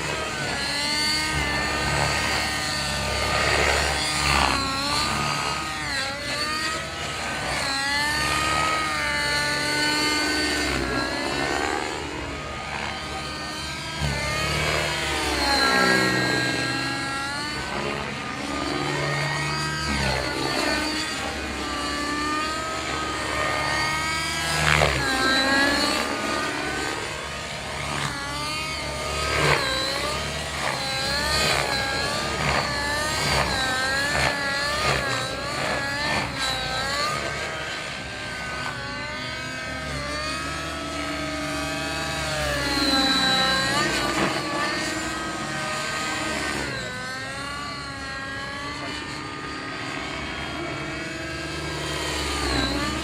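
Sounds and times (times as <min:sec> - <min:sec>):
model helicopter rotor whine: 0:00.0 - 0:53.0.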